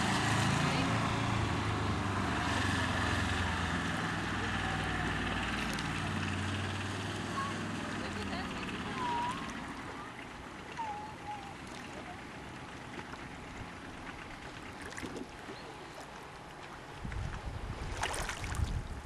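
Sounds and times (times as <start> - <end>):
water lapping against a dock: 0.0 - 19.0.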